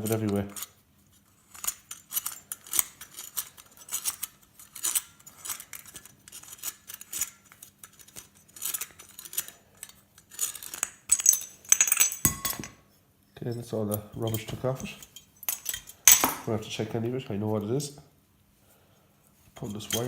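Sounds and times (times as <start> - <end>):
metallic clicks and scrapes: 0.0 - 16.4, 19.6 - 20.0.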